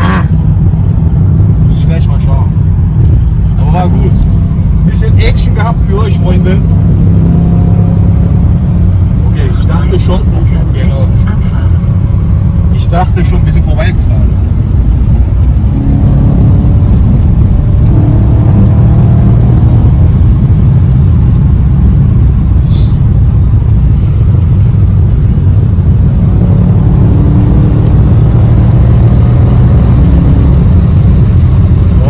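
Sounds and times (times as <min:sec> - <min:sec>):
car cabin engine and road drone: 0:00.0 - 0:32.0.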